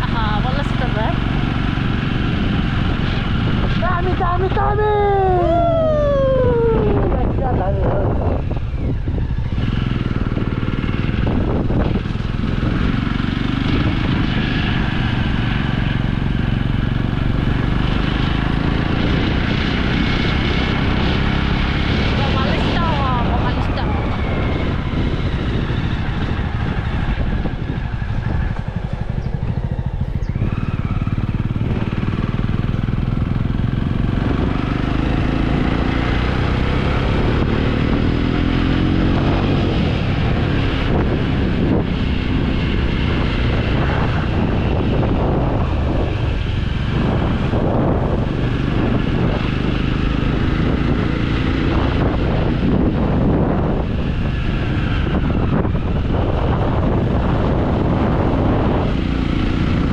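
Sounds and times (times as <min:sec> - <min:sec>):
motorcycle engine accelerating: 0:00.0 - 0:59.9
wind rumbling on microphone: 0:00.0 - 0:59.9.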